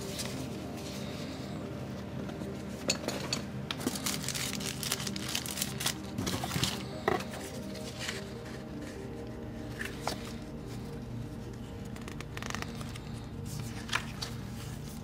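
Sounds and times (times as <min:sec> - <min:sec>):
cardboard and paper rustling: 0:00.0 - 0:02.8, 0:03.7 - 0:15.0
background music: 0:00.0 - 0:15.0.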